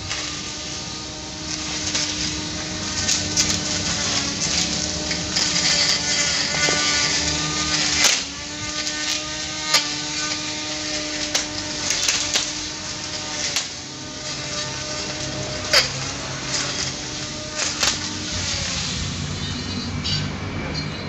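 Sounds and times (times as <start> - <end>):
grass trimmer motor whine: 0.0 - 21.0.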